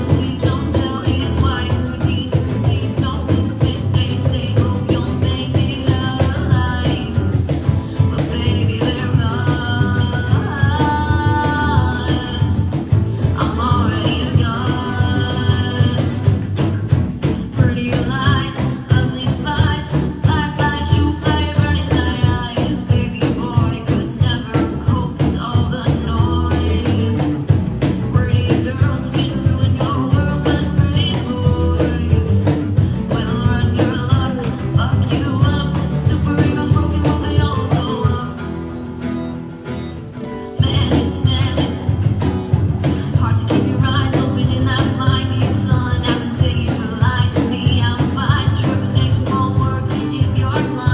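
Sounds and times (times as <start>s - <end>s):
person singing lead vocal: 0.0s - 38.7s, 40.5s - 50.9s
rock band playing live: 0.0s - 50.9s.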